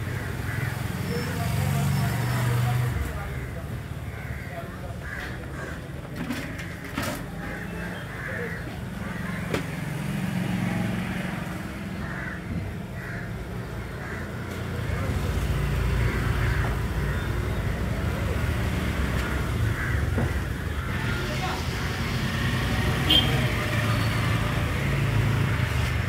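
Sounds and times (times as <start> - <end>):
faint voices: 0.2 - 22.6.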